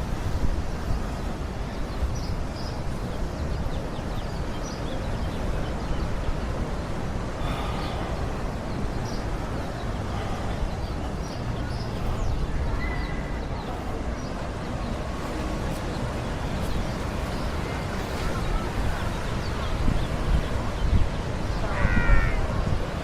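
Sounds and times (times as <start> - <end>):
distant traffic: 0.0 - 23.0
faint distant voices: 0.0 - 23.0
wind rumble: 0.0 - 23.0.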